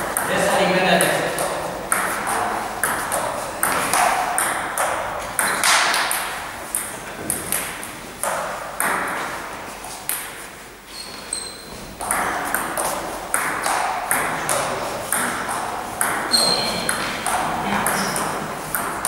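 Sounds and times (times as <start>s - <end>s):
table tennis ball clicking: 0.9s - 9.2s, 12.0s - 19.0s.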